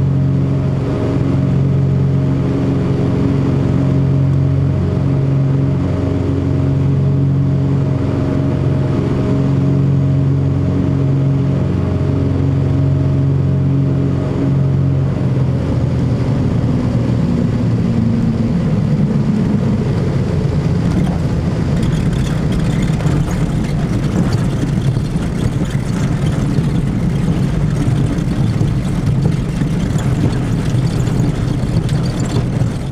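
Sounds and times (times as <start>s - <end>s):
twin piston aircraft engines droning: 0.0s - 32.9s.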